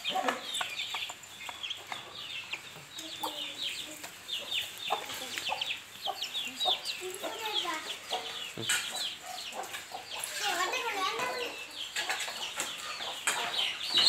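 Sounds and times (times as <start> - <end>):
chicks peeping: 0.0 - 14.0
hens clucking: 0.0 - 14.0.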